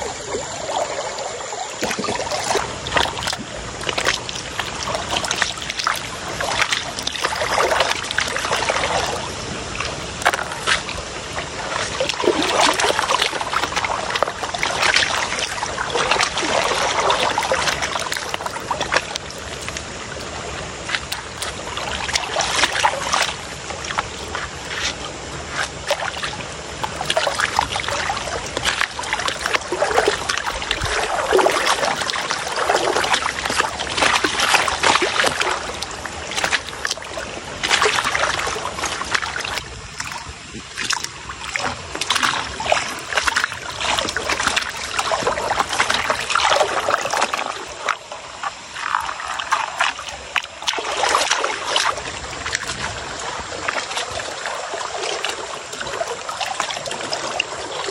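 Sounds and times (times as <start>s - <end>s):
river water sloshing and splashing: 0.0s - 57.9s.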